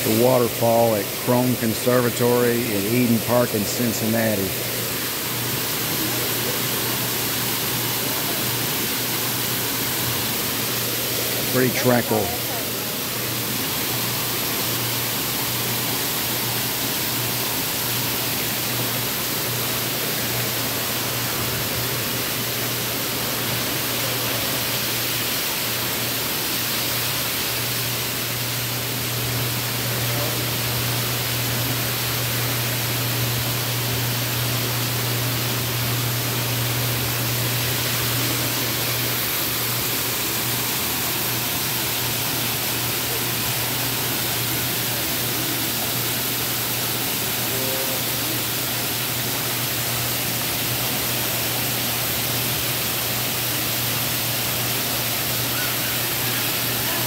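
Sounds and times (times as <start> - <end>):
steady low hum: 0.0 - 54.9
waterfall splashing into pool: 0.0 - 57.0.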